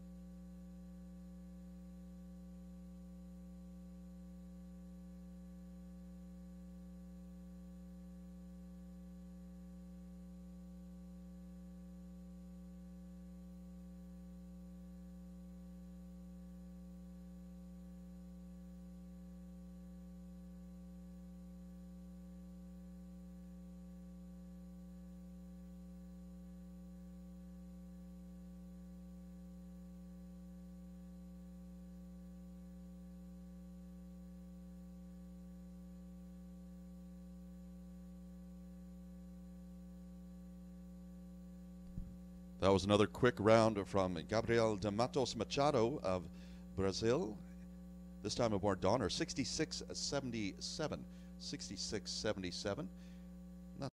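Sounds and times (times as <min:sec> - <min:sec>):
low electrical hum: 0:00.0 - 0:53.9.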